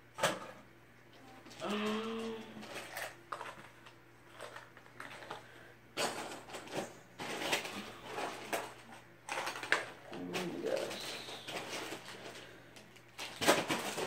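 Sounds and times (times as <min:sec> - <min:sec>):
plastic packaging crinkling: 0:01.5 - 0:14.0.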